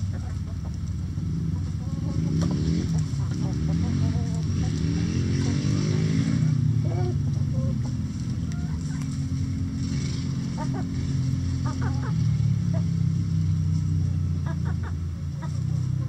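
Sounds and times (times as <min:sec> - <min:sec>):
hens clucking: 0:00.0 - 0:05.6, 0:06.8 - 0:13.2, 0:14.3 - 0:16.0.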